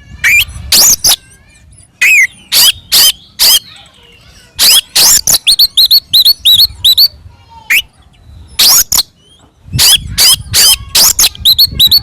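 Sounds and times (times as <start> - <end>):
harsh bird notes: 0.0 - 12.0
magpie-robin singing: 0.1 - 12.0.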